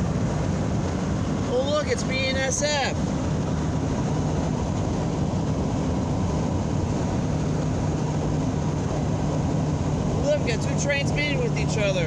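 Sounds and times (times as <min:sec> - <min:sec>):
low engine drone: 0:00.0 - 0:12.0
road noise inside car: 0:00.0 - 0:12.0.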